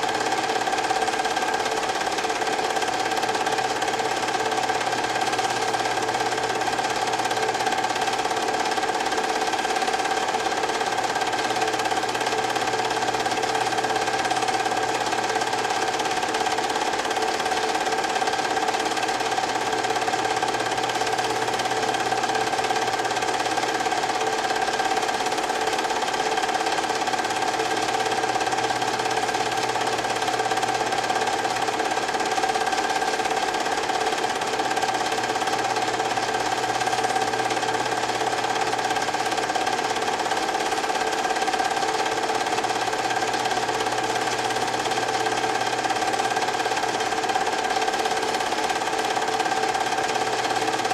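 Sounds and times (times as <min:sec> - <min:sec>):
film projector whirring and clattering: 0:00.0 - 0:50.9.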